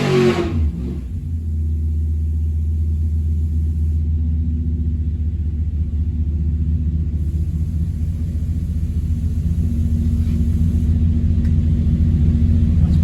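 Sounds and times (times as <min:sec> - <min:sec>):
engine deep rumble: 0:00.0 - 0:13.0.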